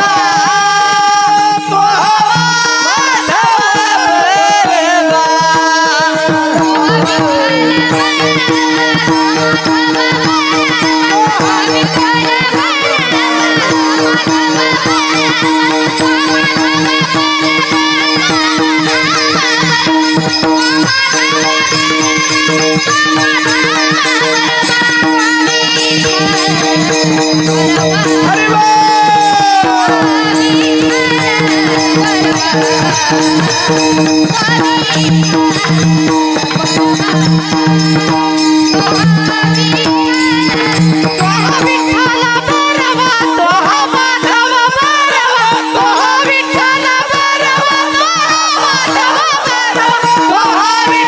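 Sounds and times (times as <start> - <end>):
hand drum strokes: 0.0 - 51.0
sung devotional melody: 0.0 - 51.0
held drone: 4.3 - 50.7.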